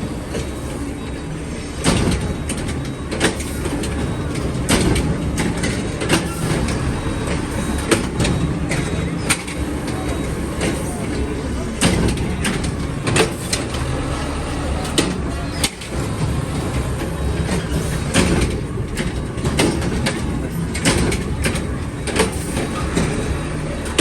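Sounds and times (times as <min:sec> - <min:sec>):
clunks and rattles: 0:00.0 - 0:24.0
truck rumbling in motion: 0:00.0 - 0:24.0.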